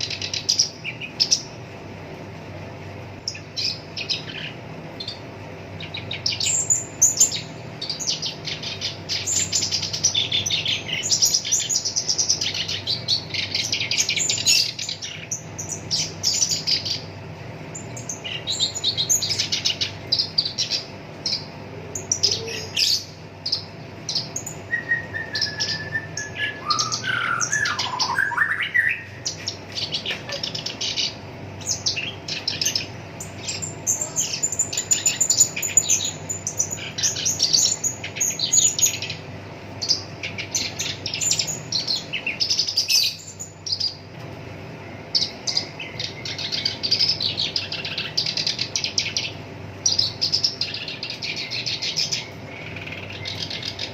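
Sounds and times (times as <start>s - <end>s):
bird chattering song: 0.0s - 53.9s.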